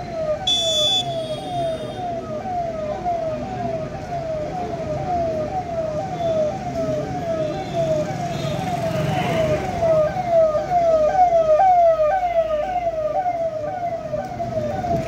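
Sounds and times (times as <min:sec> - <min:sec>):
electronic vehicle siren: 0:00.0 - 0:15.0
low traffic rumble: 0:00.0 - 0:15.0.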